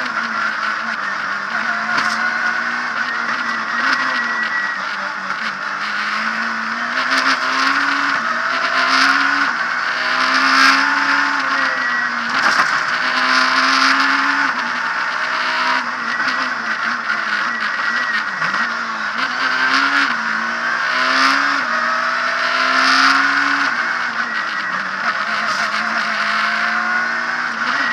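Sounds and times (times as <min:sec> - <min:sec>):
rally car engine revving hard: 0:00.0 - 0:27.9.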